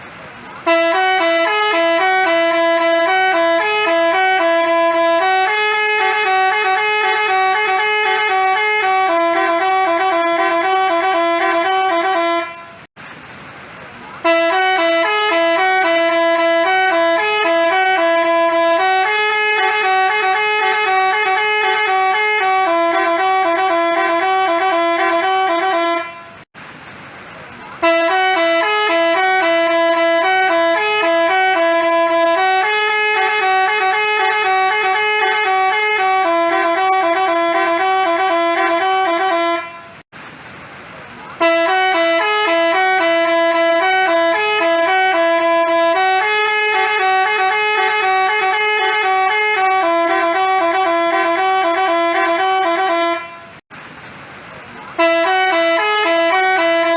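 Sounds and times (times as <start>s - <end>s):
multi-tone bus horn melody: 0.4s - 12.9s, 14.2s - 26.5s, 27.8s - 40.1s, 41.4s - 53.7s, 54.9s - 56.9s.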